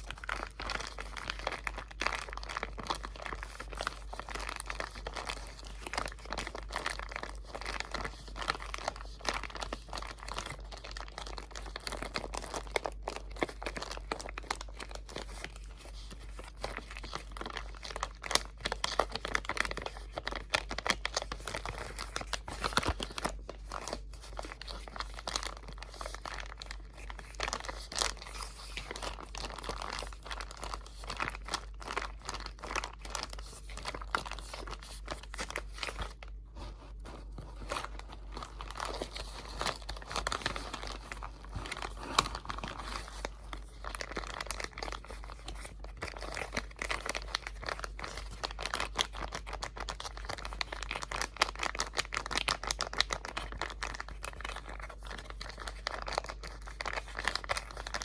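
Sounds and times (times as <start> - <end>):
material crinkling: 0.0 - 58.0.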